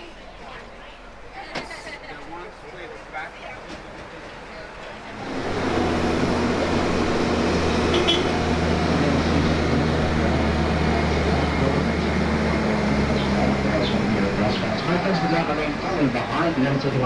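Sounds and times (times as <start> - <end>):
tram engine humming: 0.0 - 17.0.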